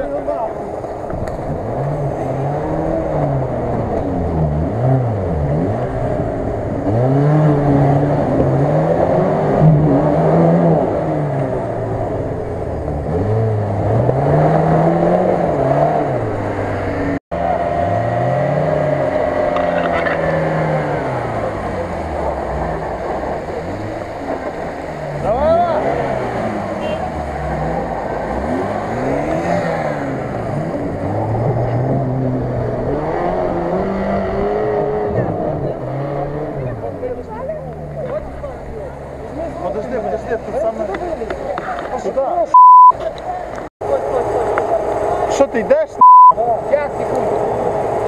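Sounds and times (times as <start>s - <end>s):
off-road engines revving: 0.0s - 48.0s.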